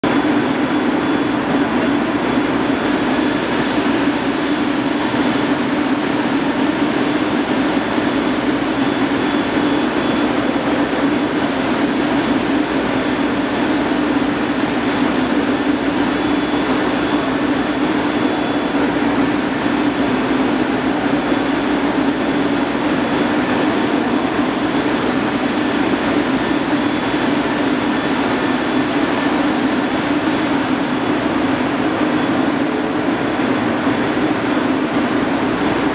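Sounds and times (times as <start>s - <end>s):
industrial machinery drone: 0.0s - 35.9s
faint high whines: 0.1s - 35.9s.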